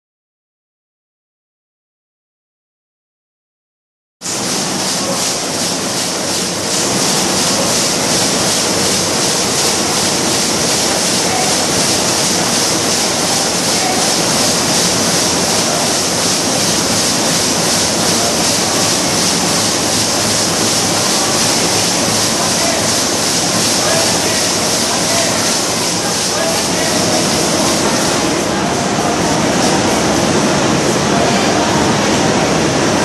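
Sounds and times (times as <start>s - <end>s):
embroidery machine running: 4.2s - 33.0s.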